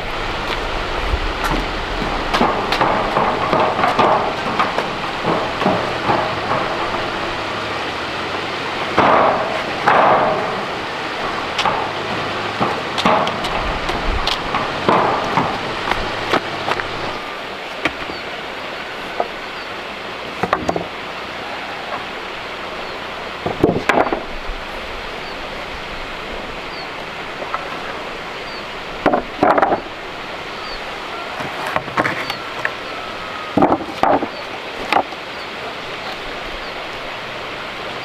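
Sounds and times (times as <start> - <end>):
knocks and clanks: 0.0 - 21.0, 22.8 - 24.5, 26.7 - 36.2
running water rushing: 0.0 - 38.0.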